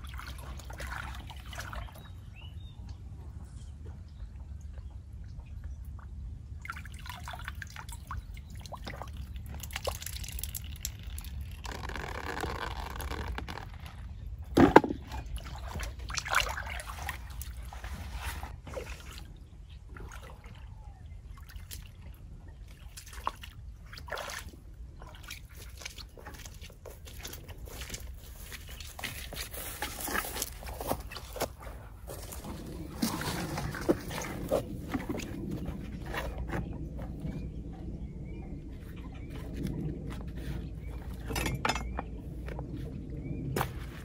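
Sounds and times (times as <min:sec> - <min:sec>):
pond water splashing and dripping: 0:00.0 - 0:03.1, 0:04.0 - 0:37.5.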